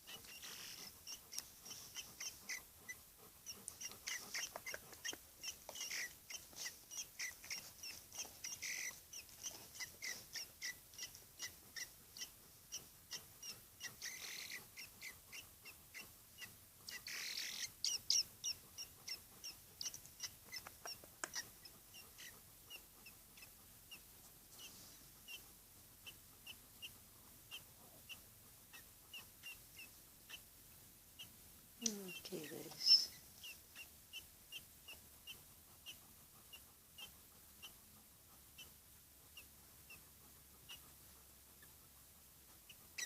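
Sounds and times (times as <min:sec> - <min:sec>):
blackbird chirping: 0:00.0 - 0:37.8.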